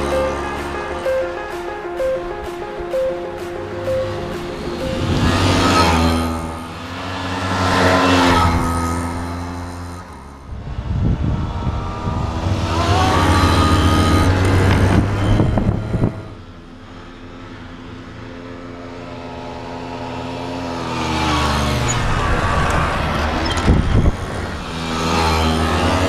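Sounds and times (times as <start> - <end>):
motorcycle engines revving: 0.0 - 1.4, 3.4 - 26.0.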